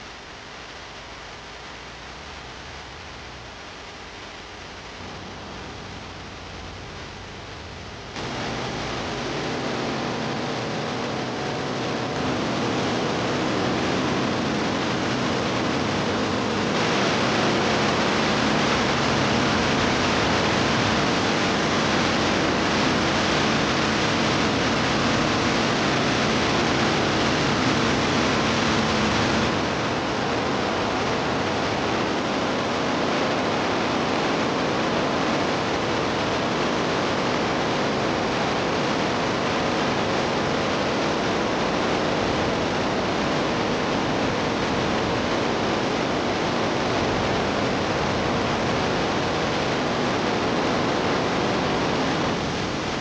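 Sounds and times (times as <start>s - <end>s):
steady rushing noise: 4.6s - 53.0s.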